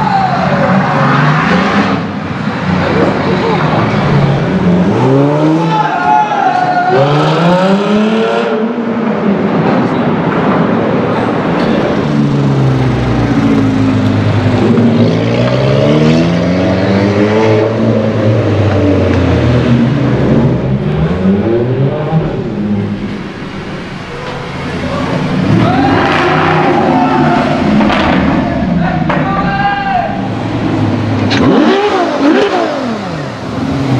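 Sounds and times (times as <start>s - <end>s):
car engine accelerating hard: 0.0s - 33.9s.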